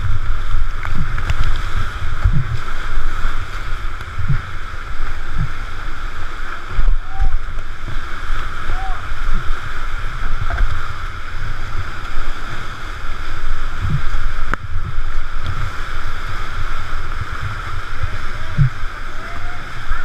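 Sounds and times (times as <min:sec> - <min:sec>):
low buffeting thumps: 0:00.0 - 0:20.0
whitewater rushing: 0:00.0 - 0:20.0.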